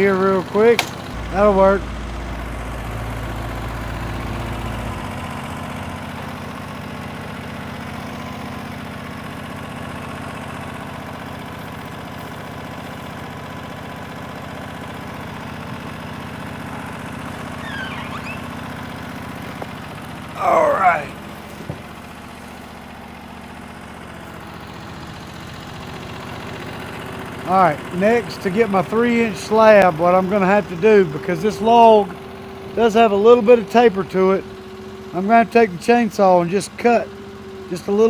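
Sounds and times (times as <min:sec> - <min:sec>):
gasoline engine running: 0:00.0 - 0:38.0.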